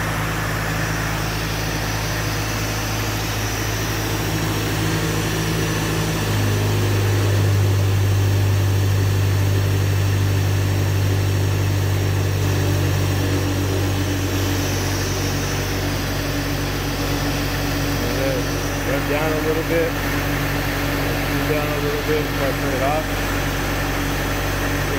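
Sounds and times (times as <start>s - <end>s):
compressor machine hum: 0.0s - 24.9s.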